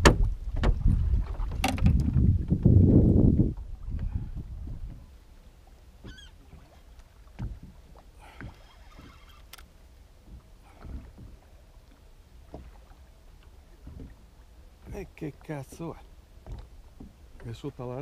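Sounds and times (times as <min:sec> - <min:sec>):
soft knocks of boat: 0:00.0 - 0:02.8, 0:03.5 - 0:18.0
water lapping against boat hull: 0:00.0 - 0:18.0.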